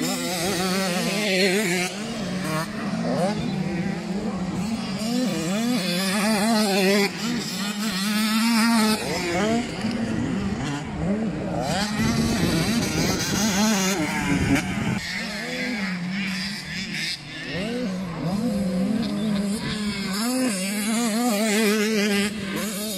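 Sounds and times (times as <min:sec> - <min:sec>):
engine drone: 0:00.0 - 0:22.9
motocross bikes revving: 0:00.0 - 0:22.9.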